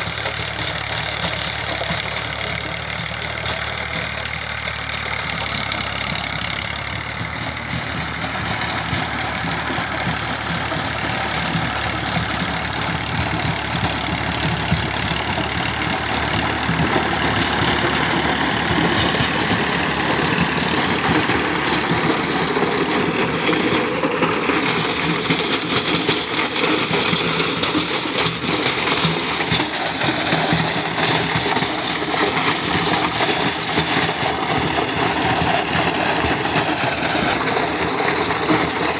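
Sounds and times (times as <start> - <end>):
tractor diesel engine running: 0.0 - 38.9
rotavator blades churning soil: 5.0 - 38.9.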